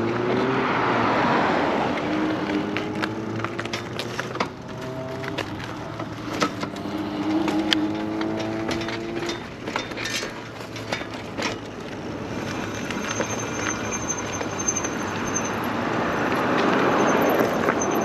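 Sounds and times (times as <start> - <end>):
bike rattling over gravel: 0.0 - 18.0.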